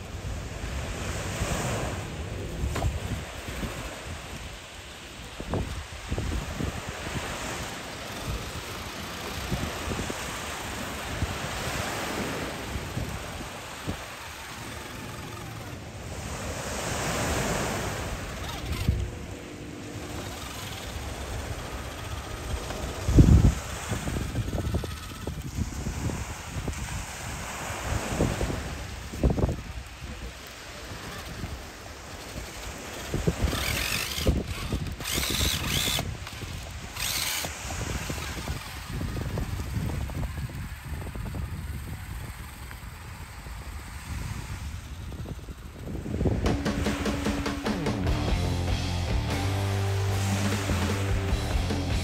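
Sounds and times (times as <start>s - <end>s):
waves washing onto beach: 0.0s - 47.7s
wind on microphone: 0.0s - 47.9s
electric motor whine: 0.0s - 52.0s.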